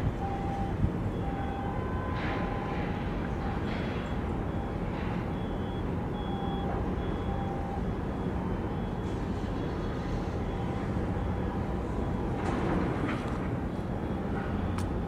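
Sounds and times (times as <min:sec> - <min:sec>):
low harbour rumble: 0:00.0 - 0:15.0
ship engines: 0:00.0 - 0:15.0.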